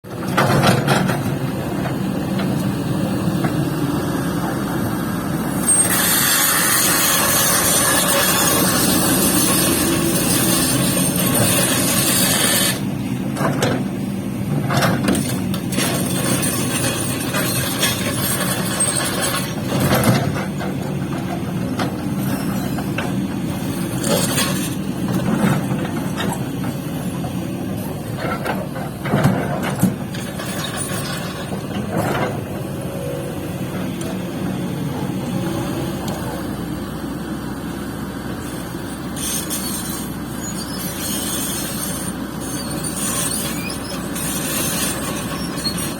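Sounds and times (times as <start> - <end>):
excavator diesel engines running: 0.1 - 45.9.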